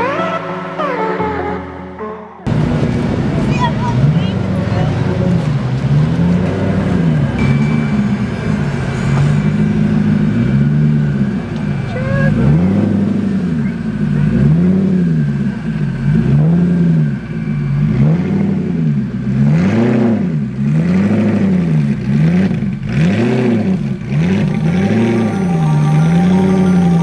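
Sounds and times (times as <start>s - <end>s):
engine revving: 2.4s - 27.0s.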